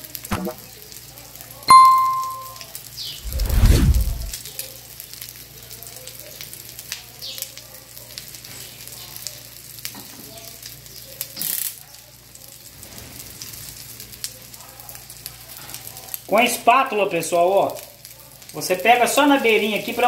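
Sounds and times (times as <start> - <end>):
egg sizzling in a frying pan: 0.0 - 3.2, 4.4 - 20.0.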